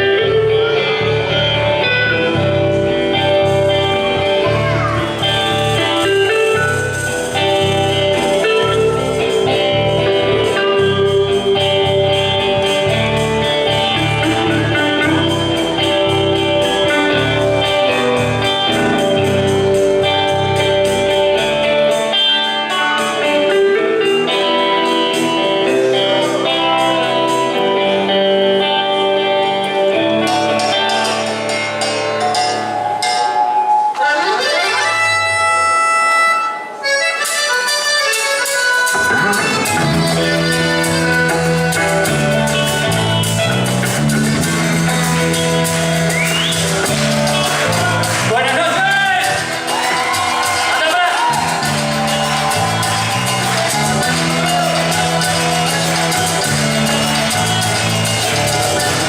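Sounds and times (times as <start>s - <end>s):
band music with sustained notes: 0.0s - 59.0s
bass: 0.0s - 59.0s.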